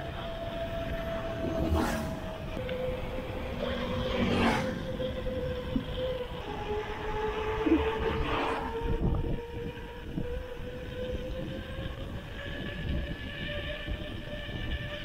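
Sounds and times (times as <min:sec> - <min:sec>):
bike tyre rumble on asphalt: 0:00.0 - 0:15.0
steady humming tone: 0:00.0 - 0:15.0
wind buffeting microphone: 0:00.0 - 0:15.0.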